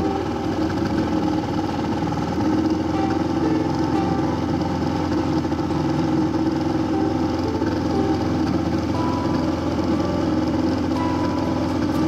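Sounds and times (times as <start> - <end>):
churn of boat wake: 0.0 - 12.0
outboard motor running: 0.0 - 12.0.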